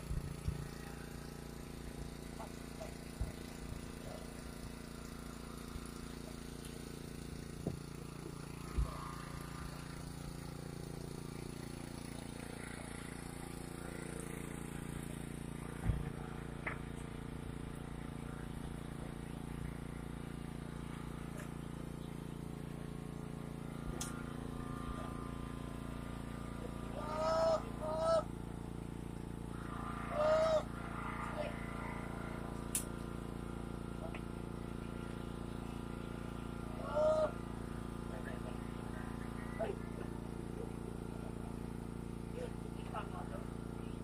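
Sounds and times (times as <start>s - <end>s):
engine hum: 0.0s - 44.0s.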